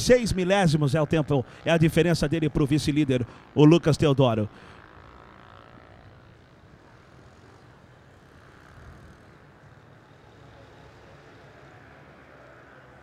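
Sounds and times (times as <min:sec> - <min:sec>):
distant motorcycle engine hum: 0:00.0 - 0:13.0.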